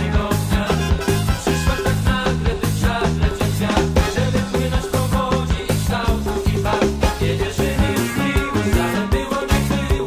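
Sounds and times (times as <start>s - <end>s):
instrumental band music: 0.0s - 10.0s
steady drum beat: 0.0s - 10.0s.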